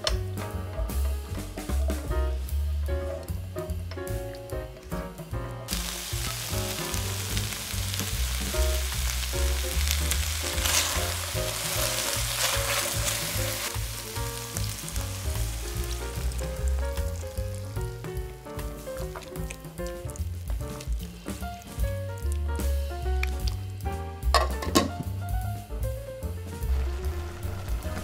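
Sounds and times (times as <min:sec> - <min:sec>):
background music with bass line: 0:00.0 - 0:28.0
meat and vegetables sizzling: 0:02.4 - 0:25.4, 0:26.5 - 0:28.0.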